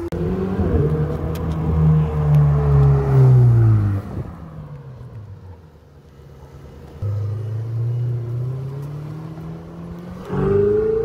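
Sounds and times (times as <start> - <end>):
sports car engine passing: 0.0 - 5.5, 6.8 - 11.0.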